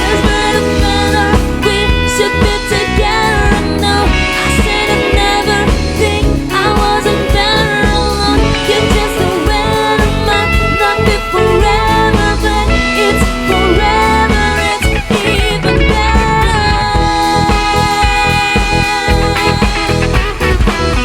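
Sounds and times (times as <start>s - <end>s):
live band playing pop song: 0.0s - 21.0s.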